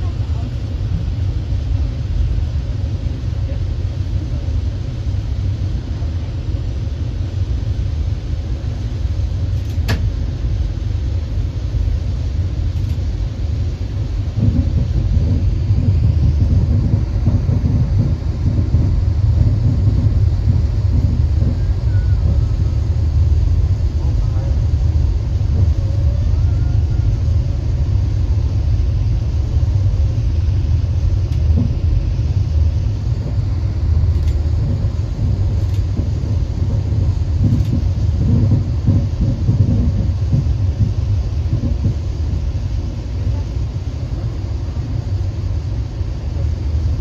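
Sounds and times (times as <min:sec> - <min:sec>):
train rumbling along track: 0:00.0 - 0:47.0.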